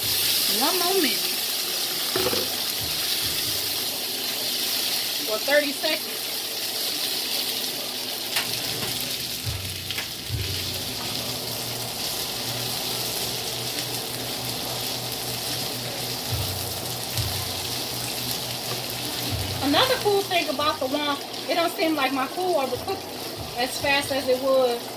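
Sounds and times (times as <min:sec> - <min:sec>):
chicken sizzling in hot oil: 0:00.0 - 0:24.9.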